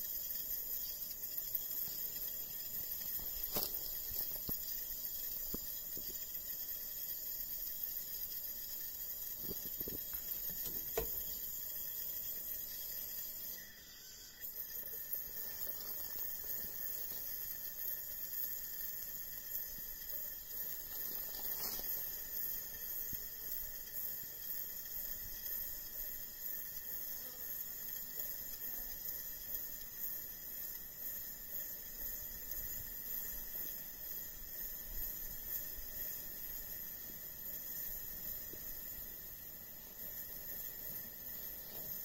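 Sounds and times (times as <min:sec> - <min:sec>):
camp stove burner hissing: 0:00.0 - 0:42.0.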